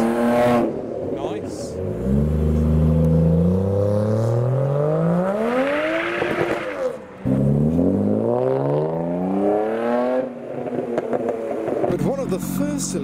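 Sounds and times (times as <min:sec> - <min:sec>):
car engine accelerating hard: 0:01.7 - 0:12.9.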